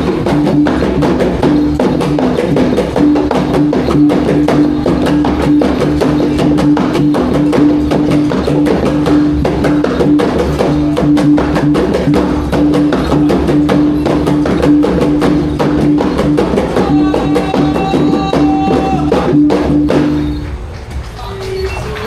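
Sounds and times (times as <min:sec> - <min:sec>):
fast drum rhythm: 0:00.0 - 0:20.7.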